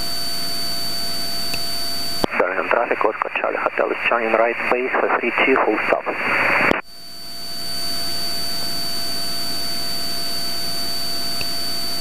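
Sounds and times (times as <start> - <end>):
faint steady whine: 0.0 - 12.0.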